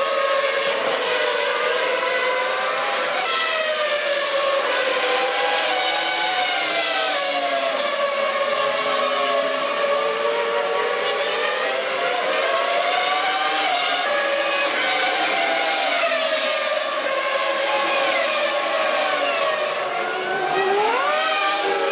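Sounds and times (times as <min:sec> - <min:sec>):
racing car engines revving: 0:00.0 - 0:21.9.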